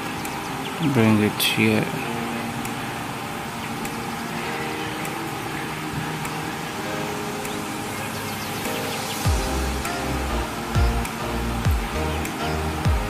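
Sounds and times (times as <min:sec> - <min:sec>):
soft sustained background music: 0:00.0 - 0:13.0
steady hiss: 0:00.0 - 0:13.0.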